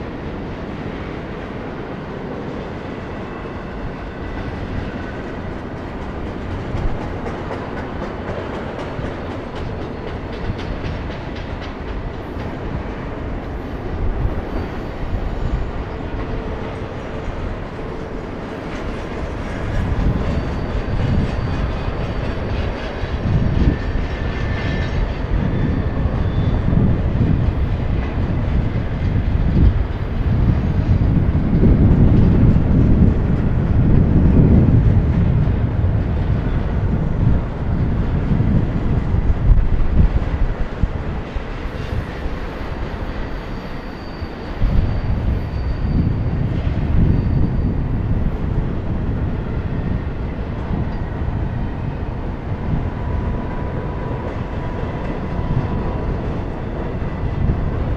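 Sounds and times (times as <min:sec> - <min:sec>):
freight train wheels rumbling: 0:00.0 - 0:57.9.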